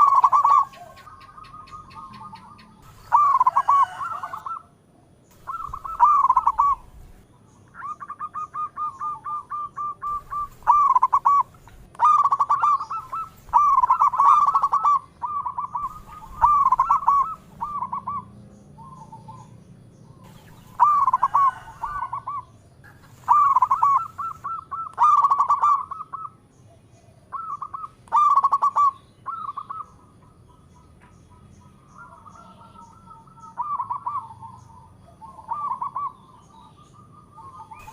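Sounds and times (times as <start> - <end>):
dove cooing: 0.0 - 4.7, 5.3 - 7.2, 7.8 - 19.6, 20.2 - 30.1, 31.3 - 37.9.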